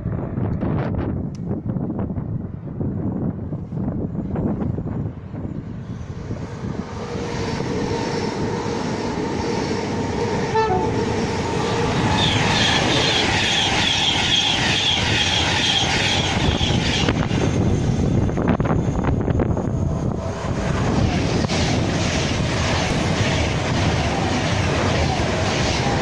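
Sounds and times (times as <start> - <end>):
train passing: 0.0 - 26.0.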